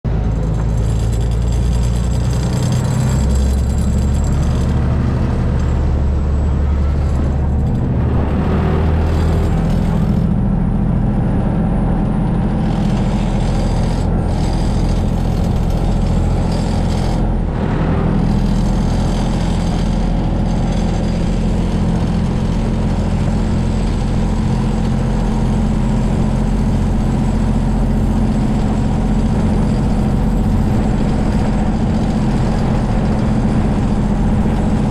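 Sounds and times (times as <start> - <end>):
boat engine droning: 0.1 - 34.9.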